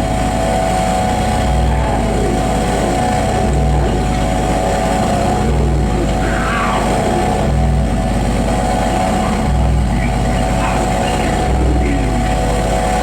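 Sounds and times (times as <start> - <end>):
distorted electronic noise: 0.0 - 13.0
held tones: 0.0 - 13.0
low throb: 0.0 - 13.0.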